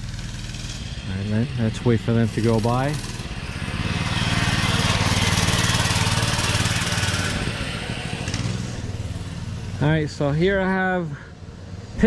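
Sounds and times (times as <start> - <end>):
small engine passing by: 0.0 - 12.0.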